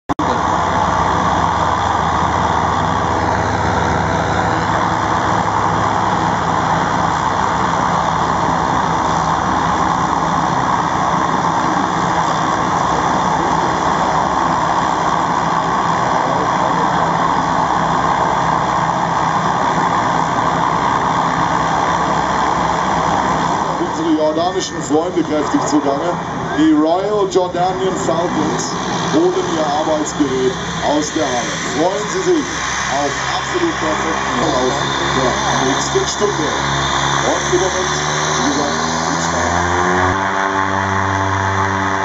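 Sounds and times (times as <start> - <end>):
turboprop engines droning: 0.0 - 42.0.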